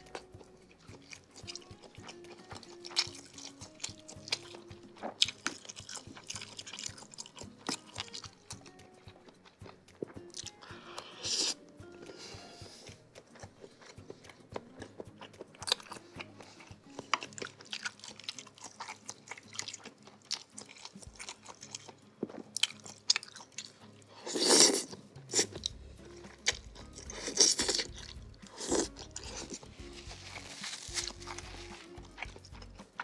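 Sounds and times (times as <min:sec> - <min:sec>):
person biting and chewing: 0:00.0 - 0:33.0.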